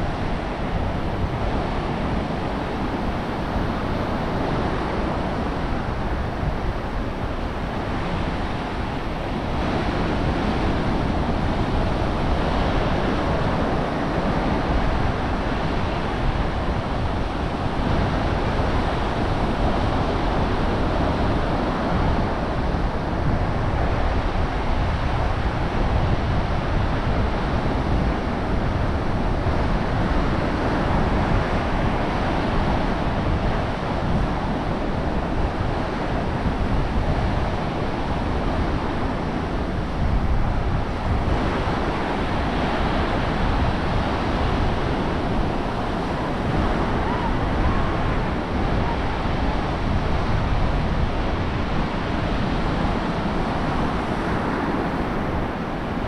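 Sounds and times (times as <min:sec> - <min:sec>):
ocean surf washing: 0:00.0 - 0:56.0
wind buffeting microphone: 0:00.0 - 0:56.0.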